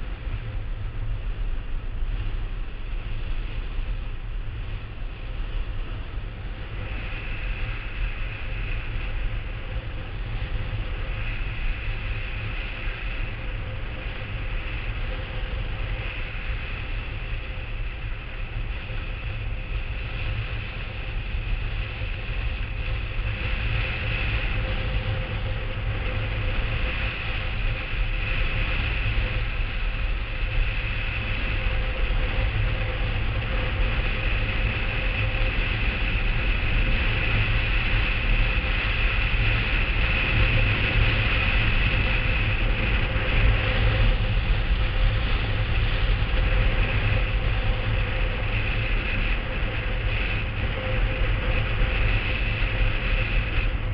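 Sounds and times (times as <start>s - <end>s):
faint thin whine: 0.0s - 53.9s
wheels rumbling on hard ground: 0.0s - 53.9s
wind rushing past microphone: 0.0s - 53.9s.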